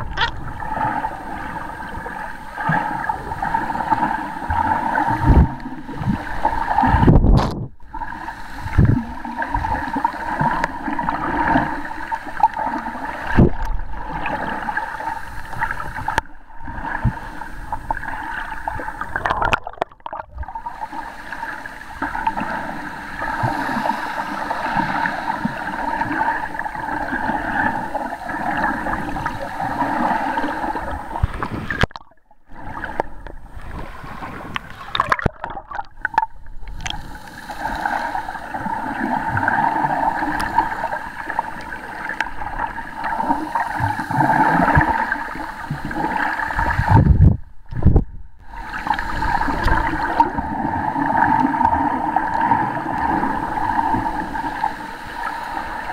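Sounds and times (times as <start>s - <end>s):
water gurgling underwater: 0.0s - 55.9s.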